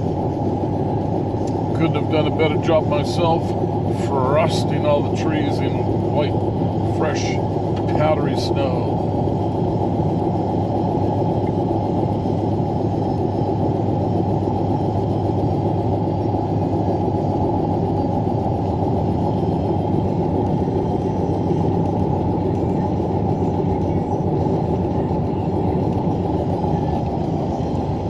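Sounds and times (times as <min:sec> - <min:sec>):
engine and road noise in cabin: 0:00.0 - 0:28.0.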